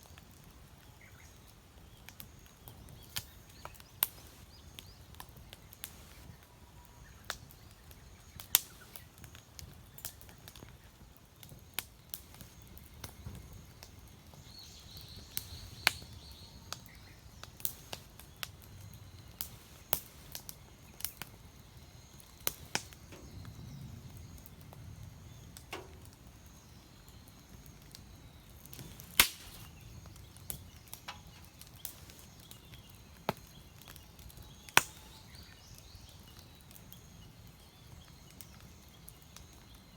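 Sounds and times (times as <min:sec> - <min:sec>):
campfire crackling and popping: 0:00.0 - 0:39.9
faint steady hiss: 0:00.0 - 0:39.9.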